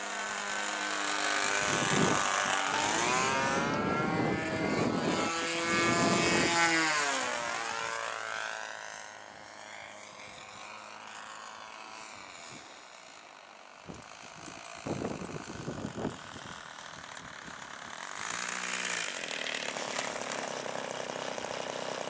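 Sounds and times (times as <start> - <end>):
model airplane flying past: 0.0 - 22.0.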